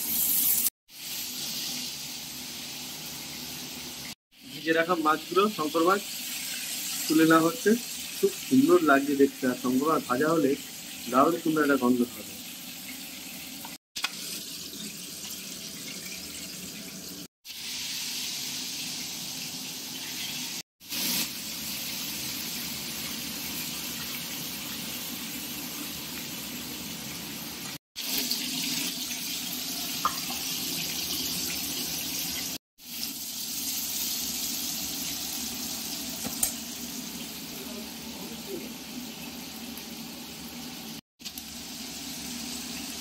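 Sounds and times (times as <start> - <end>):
food sizzling in hot oil: 0.0 - 43.0.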